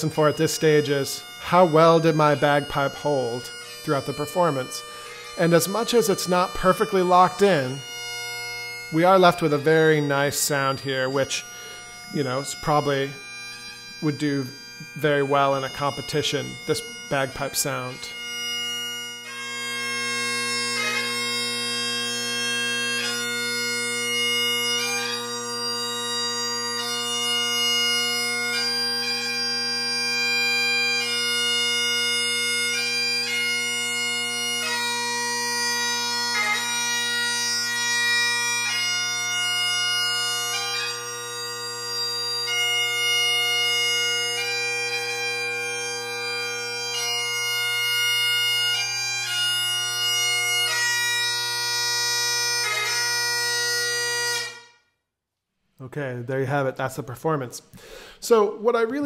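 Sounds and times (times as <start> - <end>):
bagpipe playing slow melody: 0.0 - 55.0, 57.7 - 58.3.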